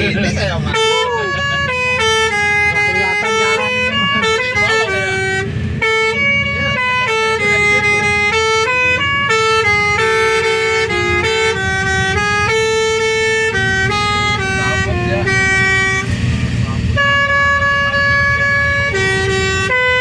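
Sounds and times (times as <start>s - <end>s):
bus horn playing a tune: 0.0s - 20.0s.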